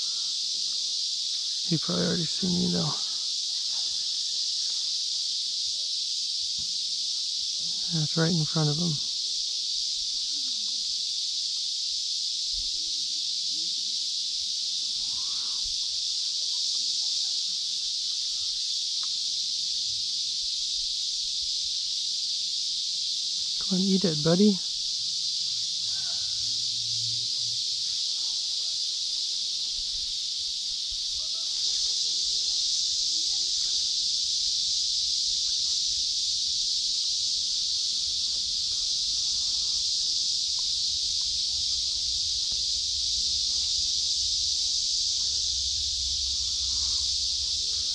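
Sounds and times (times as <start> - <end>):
high-pitched insect chorus: 0.0 - 47.9.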